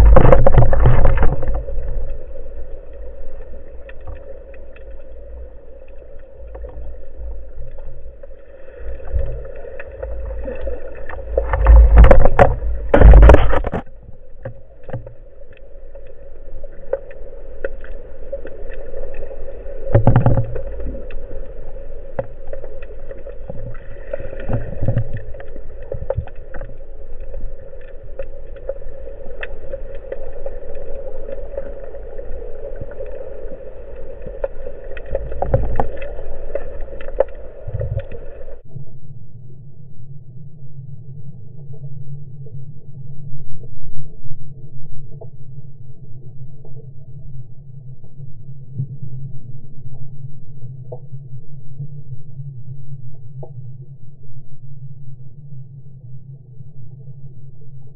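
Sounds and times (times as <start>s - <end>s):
small underwater clicks: 0.0s - 38.6s, 41.5s - 54.5s
muffled underwater rush: 0.0s - 57.9s.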